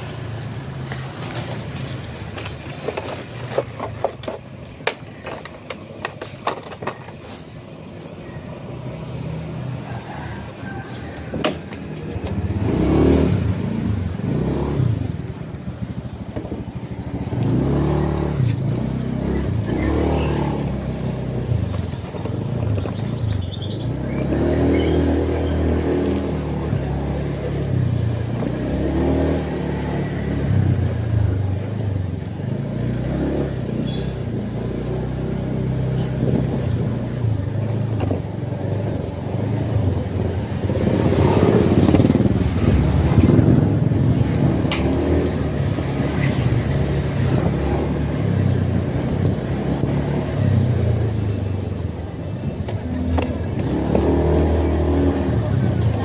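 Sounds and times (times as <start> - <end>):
vehicle engines revving in traffic: 0.0 - 56.0.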